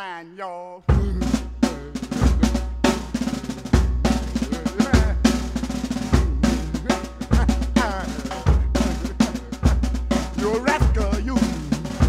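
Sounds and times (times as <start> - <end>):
heavy bass drum hits: 0.9 - 12.0
snare drum rhythm: 0.9 - 12.0.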